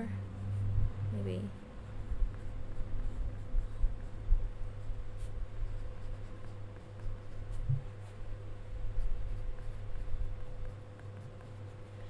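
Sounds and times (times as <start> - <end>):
low hum: 0.0 - 12.0
pencil scratching on paper: 0.4 - 12.0.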